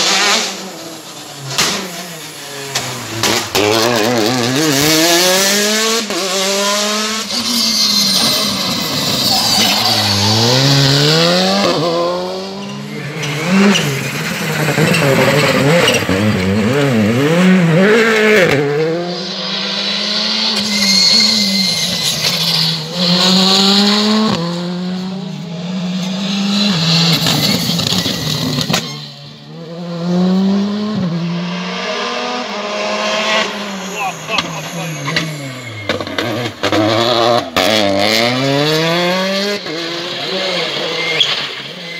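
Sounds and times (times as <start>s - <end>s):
rally car engines accelerating: 0.0s - 41.9s.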